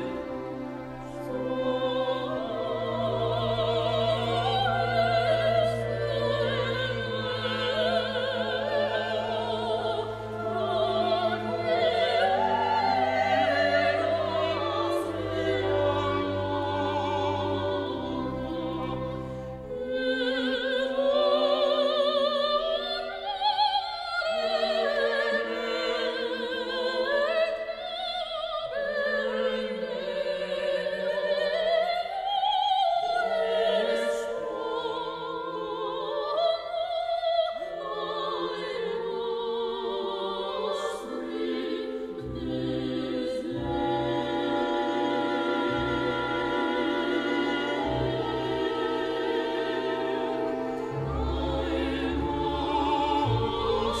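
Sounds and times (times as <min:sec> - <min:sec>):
classical orchestra: 0:00.0 - 0:54.0
operatic singing with vibrato: 0:00.0 - 0:54.0.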